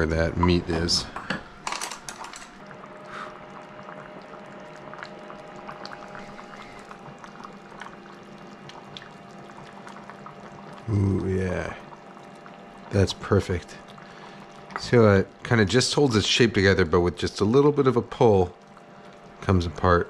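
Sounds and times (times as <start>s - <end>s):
low hum: 0.0s - 20.0s
curry bubbling in a pot: 2.6s - 20.0s.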